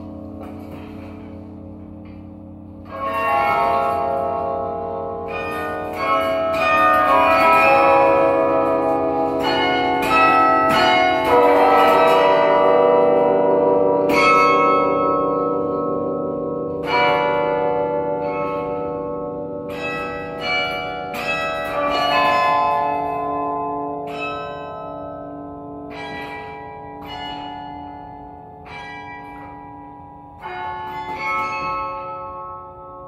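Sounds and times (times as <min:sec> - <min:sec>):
carillon bells ringing: 0:00.0 - 0:33.0.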